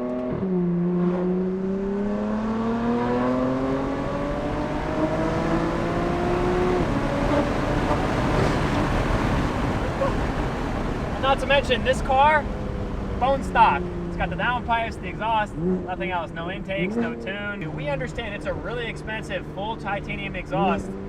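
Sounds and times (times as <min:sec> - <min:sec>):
car engine accelerating hard: 0:00.0 - 0:21.0
wind and road noise: 0:00.0 - 0:21.0.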